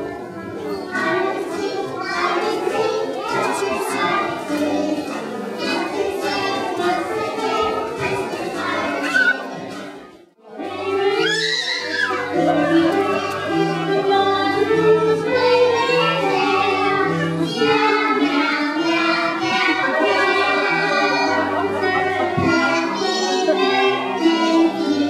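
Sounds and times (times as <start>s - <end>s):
group singing: 0.9s - 9.9s, 12.4s - 25.0s.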